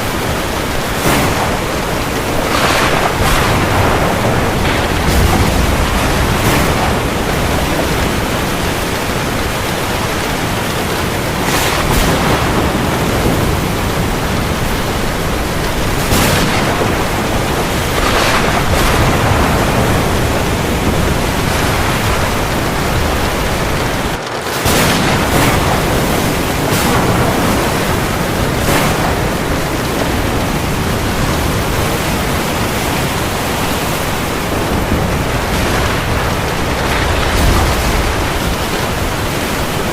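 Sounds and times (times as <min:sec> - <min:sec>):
heavy rain falling on the sea: 0:00.0 - 0:39.9
waves breaking: 0:00.0 - 0:39.9.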